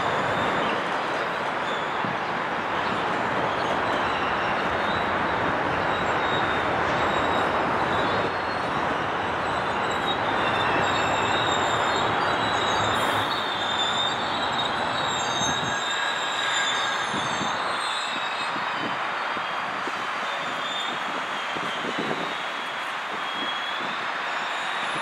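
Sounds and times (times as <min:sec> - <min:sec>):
high thin wheel squeal: 0:00.0 - 0:25.0
train wheels rumbling on rails: 0:00.0 - 0:25.0.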